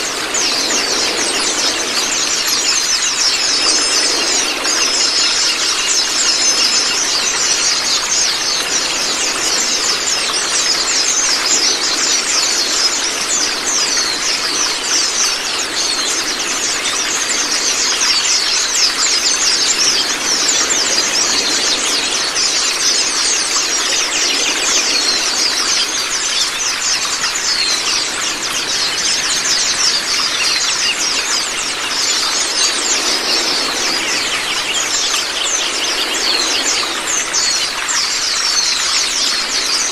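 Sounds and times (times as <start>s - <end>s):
birds chirping rapidly: 0.0s - 39.9s
running water: 0.0s - 39.9s.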